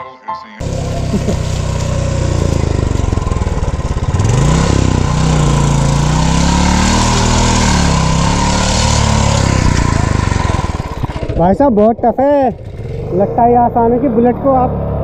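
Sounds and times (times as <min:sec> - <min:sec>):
motorcycle engine revving: 0:00.6 - 0:15.0.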